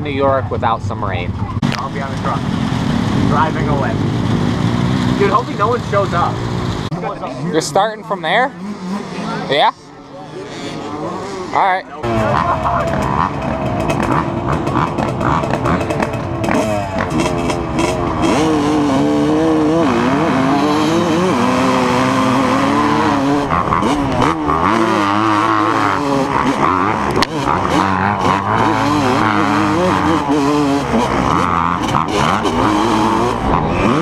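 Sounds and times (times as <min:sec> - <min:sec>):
pit bike engines revving: 0:00.0 - 0:34.0.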